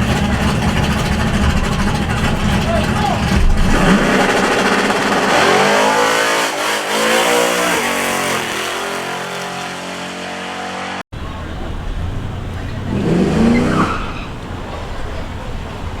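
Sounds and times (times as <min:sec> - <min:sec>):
drag race car engine at full throttle: 0:00.0 - 0:16.0.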